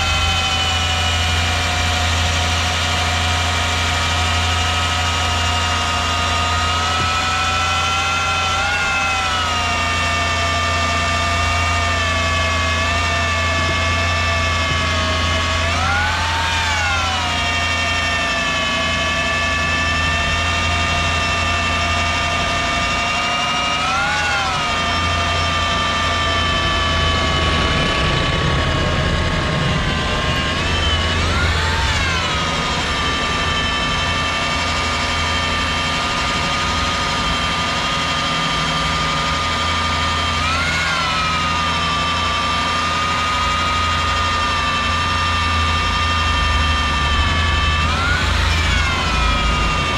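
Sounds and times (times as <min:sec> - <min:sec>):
core drill motor whining: 0:00.0 - 0:49.9.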